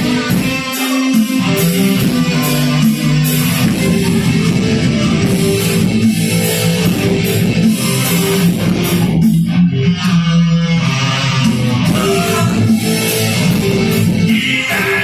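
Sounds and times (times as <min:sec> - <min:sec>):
drum kit: 0:00.0 - 0:15.0
electric guitars: 0:00.0 - 0:15.0
keyboard: 0:00.0 - 0:15.0.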